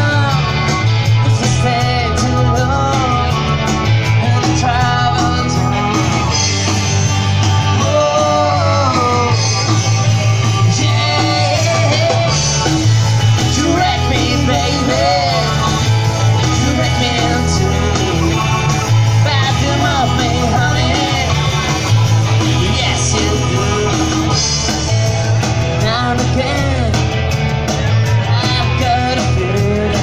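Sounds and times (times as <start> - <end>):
rock band playing loudly: 0.0 - 30.0.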